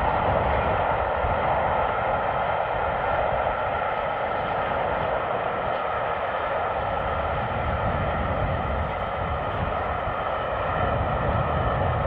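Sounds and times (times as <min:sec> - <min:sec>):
distant steam train roar: 0:00.0 - 0:12.0.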